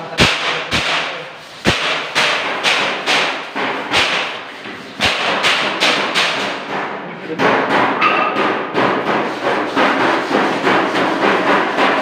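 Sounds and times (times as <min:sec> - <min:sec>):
hammer knocking on wall: 0:01.7 - 0:12.0.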